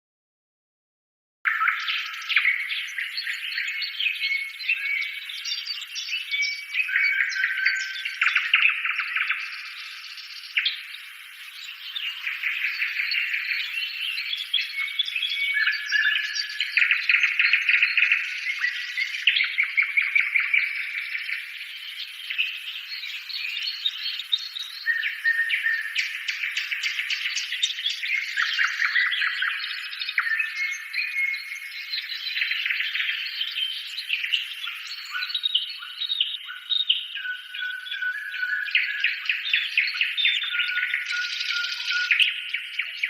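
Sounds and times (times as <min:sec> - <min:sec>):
birds chirping and trilling: 0:01.5 - 0:43.0.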